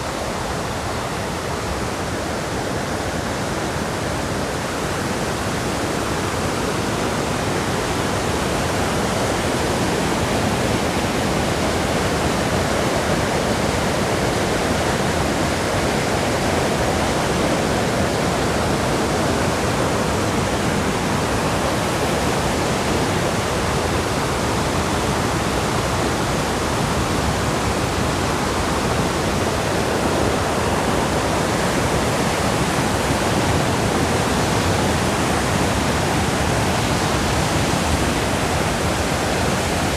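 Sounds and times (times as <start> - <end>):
river rapids roaring over rocks: 0.0 - 39.9.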